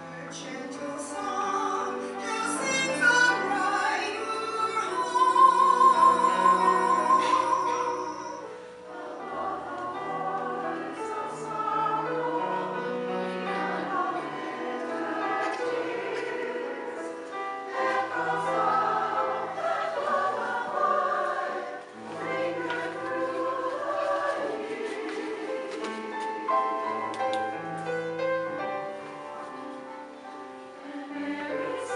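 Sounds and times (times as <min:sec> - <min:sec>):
choir singing: 0:00.0 - 0:31.9.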